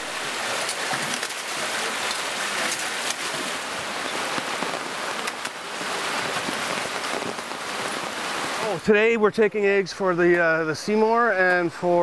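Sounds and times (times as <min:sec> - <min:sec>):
rain on wet concrete: 0:00.0 - 0:12.0.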